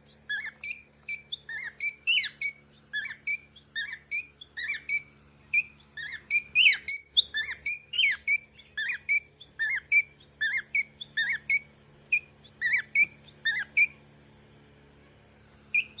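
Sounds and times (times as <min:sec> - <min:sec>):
bird chirping squeakily: 0:00.0 - 0:14.1, 0:15.7 - 0:16.0.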